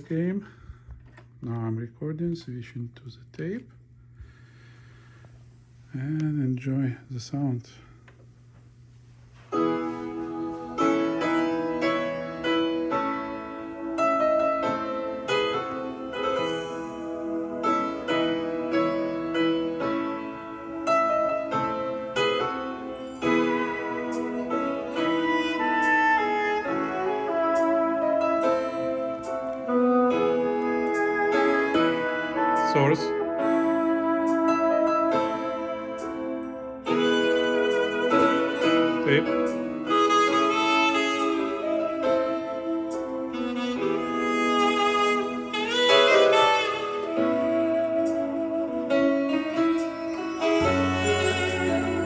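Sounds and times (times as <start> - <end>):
piano chords: 9.4 - 52.0.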